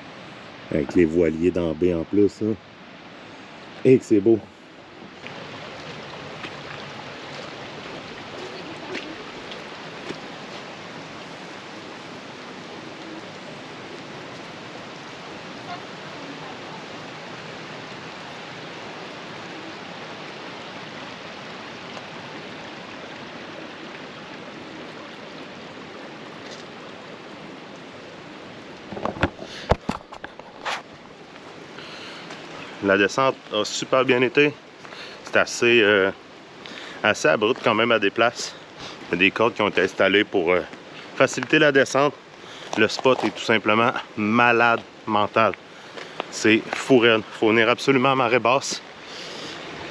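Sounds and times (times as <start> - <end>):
flowing water rushing: 0.0 - 49.9.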